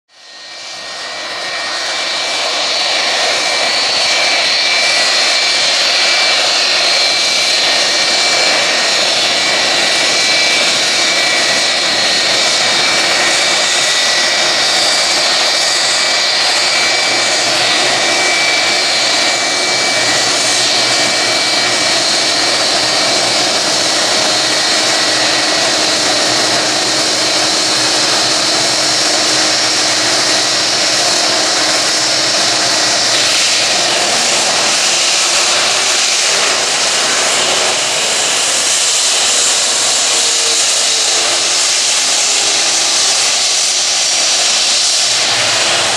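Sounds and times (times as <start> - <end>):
jet engines roaring and whining: 0.1 - 45.9.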